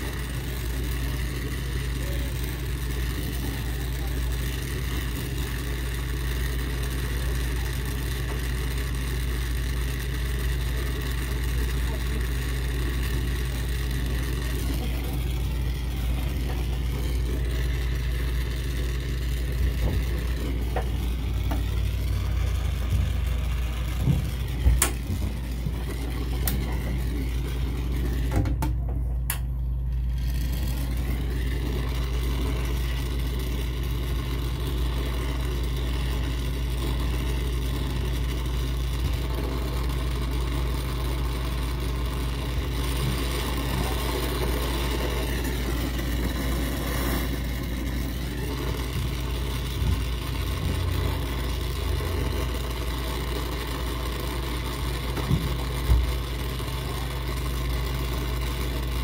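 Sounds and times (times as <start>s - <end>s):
torch flame hissing: 0.0s - 28.5s, 30.0s - 57.1s
low machinery hum: 0.0s - 59.0s.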